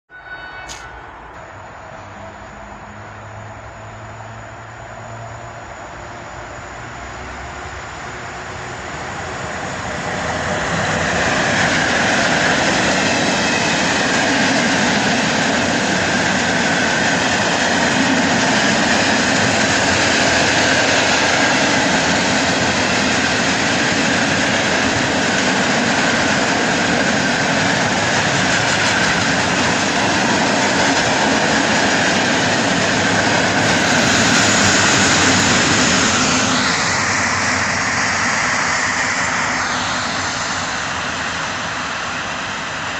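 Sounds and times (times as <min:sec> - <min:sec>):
freight train wheels rolling on rail: 0:04.2 - 0:42.9.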